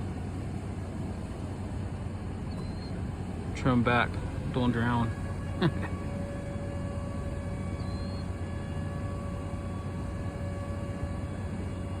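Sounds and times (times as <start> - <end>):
faint steady whine: 0.0 - 12.0
vehicle engine humming: 0.0 - 12.0.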